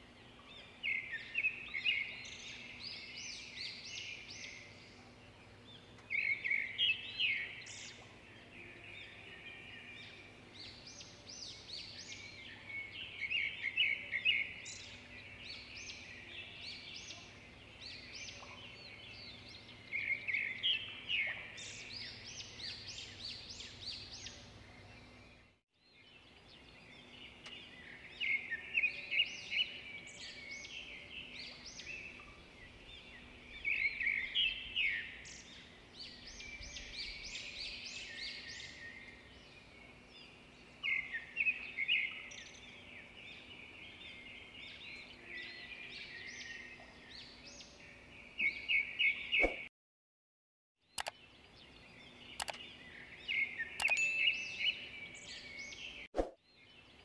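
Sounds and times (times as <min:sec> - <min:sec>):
birds chirping and twittering: 0:00.0 - 0:49.7, 0:50.8 - 0:57.0.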